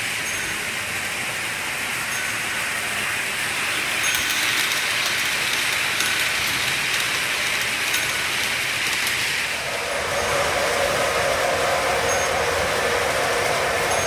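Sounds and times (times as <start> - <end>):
model train rolling rumble: 0.0 - 14.0.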